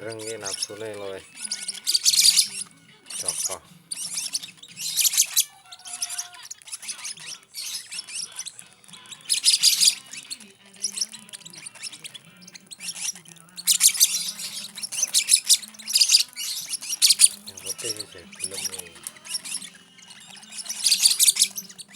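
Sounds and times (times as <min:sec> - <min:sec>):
bird chicks squawking: 0:00.0 - 0:21.9.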